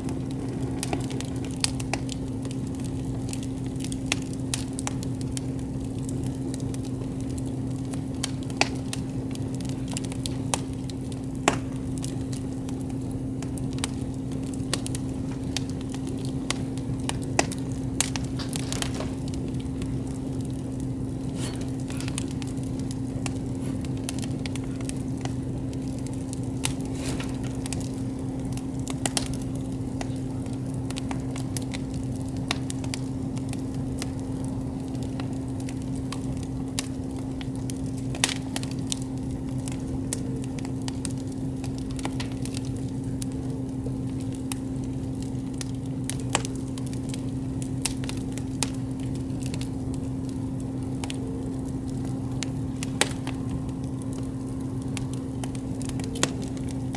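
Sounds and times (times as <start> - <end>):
campfire crackling and popping: 0.0 - 56.9
steady low hum: 0.0 - 56.9.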